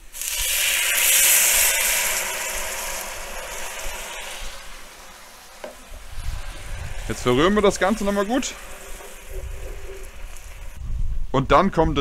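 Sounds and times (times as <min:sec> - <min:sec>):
broth hissing in hot pot: 0:00.0 - 0:10.9.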